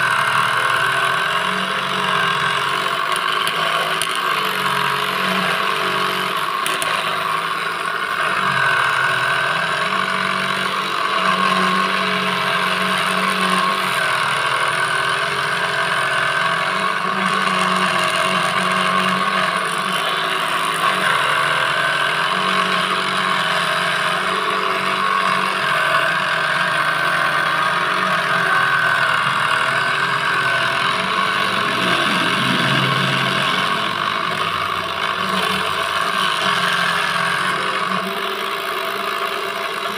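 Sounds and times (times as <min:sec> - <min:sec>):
small jigsaw cutting plastic: 0:00.0 - 0:39.9.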